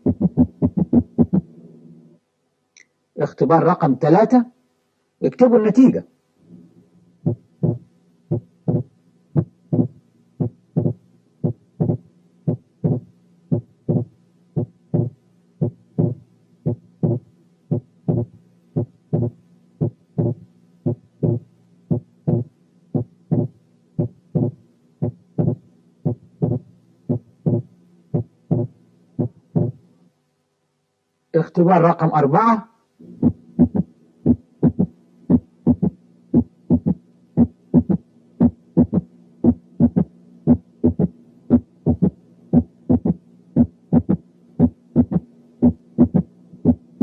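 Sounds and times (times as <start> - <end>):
heartbeat lub-dub: 0.0 - 1.5, 7.2 - 29.8, 33.1 - 46.9.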